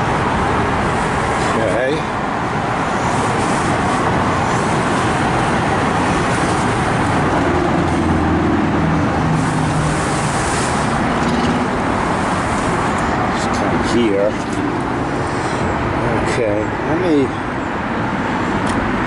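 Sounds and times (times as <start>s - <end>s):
city street traffic: 0.0s - 19.0s
vehicle engine hum: 0.0s - 19.0s.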